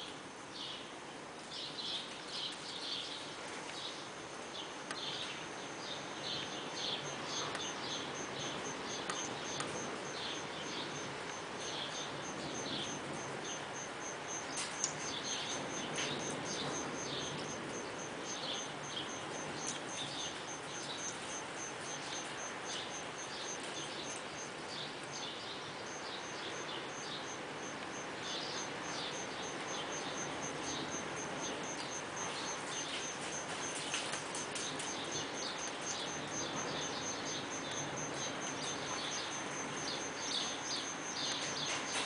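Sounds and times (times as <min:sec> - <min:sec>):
birds chirping: 0:00.0 - 0:42.0
steady background hiss: 0:00.0 - 0:42.0.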